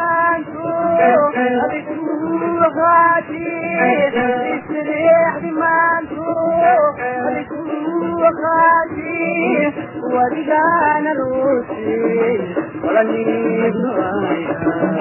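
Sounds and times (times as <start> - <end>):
instrumental backing: 0.0 - 15.0
man singing: 0.0 - 15.0.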